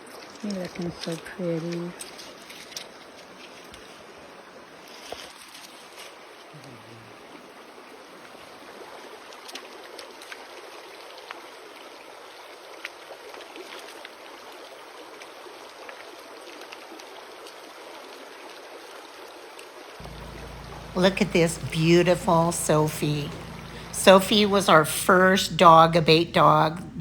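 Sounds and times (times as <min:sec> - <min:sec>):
river flowing: 0:01.1 - 0:27.0.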